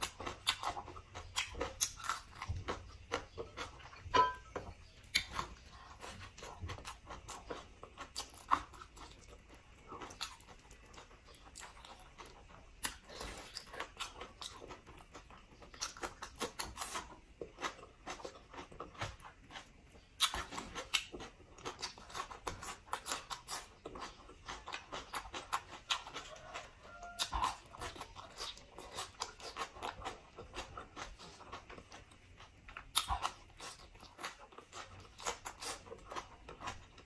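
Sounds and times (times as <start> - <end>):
person crunching raw vegetable: 0.0 - 37.0.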